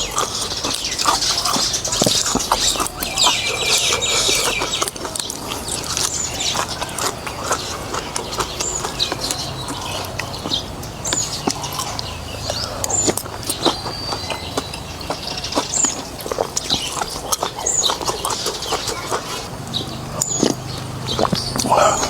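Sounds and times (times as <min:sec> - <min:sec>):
chewing and slurping: 0:00.0 - 0:22.0
high chirping calls: 0:00.0 - 0:22.0.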